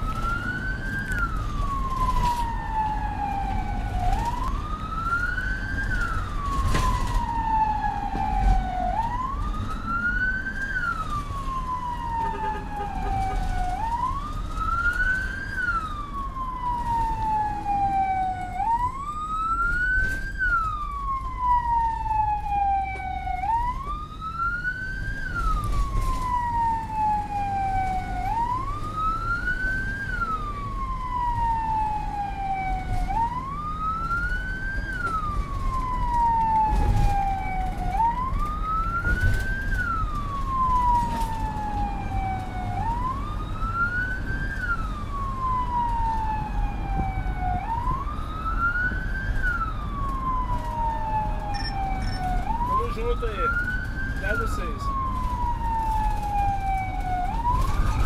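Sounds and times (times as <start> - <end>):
ambulance siren wailing: 0.0 - 58.0
engine and road rumble: 0.0 - 58.0.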